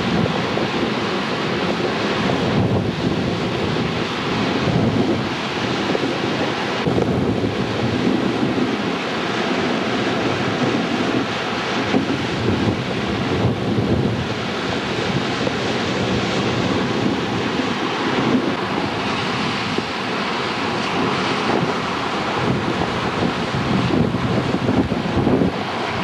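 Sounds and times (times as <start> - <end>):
waves breaking and washing ashore: 0.0 - 26.0
wind buffeting microphone: 0.0 - 26.0.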